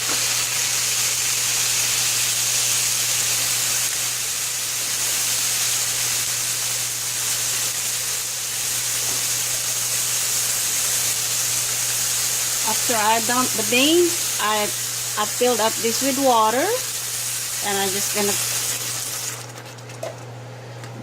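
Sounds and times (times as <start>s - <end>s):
food sizzling in a pan: 0.0s - 19.9s.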